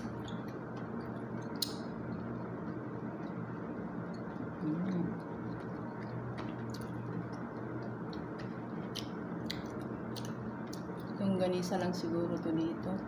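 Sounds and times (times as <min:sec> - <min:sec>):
person chewing food: 0:00.0 - 0:11.2
low room hum: 0:00.0 - 0:13.0.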